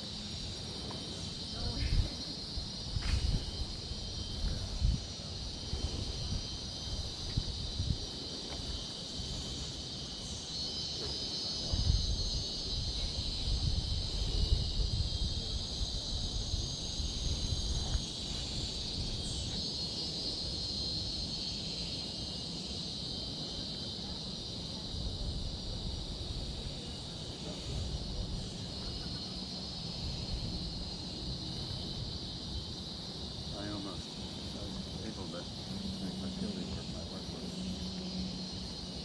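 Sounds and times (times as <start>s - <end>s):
tropical forest insects chorus: 0.0s - 39.0s.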